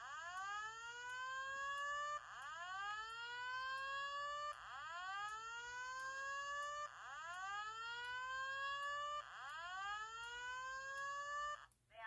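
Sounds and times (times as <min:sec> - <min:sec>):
fire alarm whoop tone: 0:00.0 - 0:11.7.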